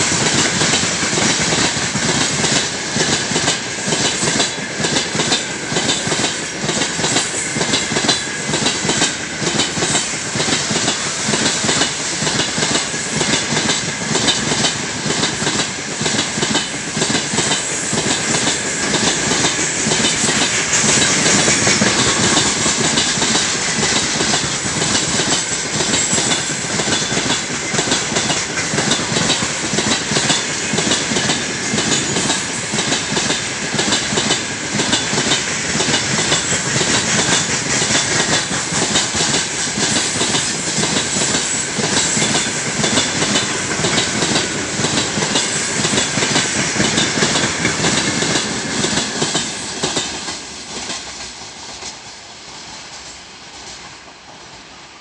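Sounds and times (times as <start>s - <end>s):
train wheels clattering over rail joints: 0.0s - 54.7s
freight train rumbling past: 0.0s - 55.0s.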